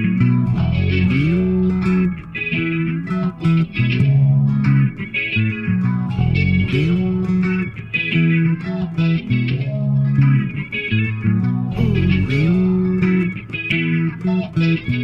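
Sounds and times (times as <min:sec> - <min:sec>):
bass guitar sliding up: 0:00.0 - 0:15.0
electric guitar: 0:00.0 - 0:15.0.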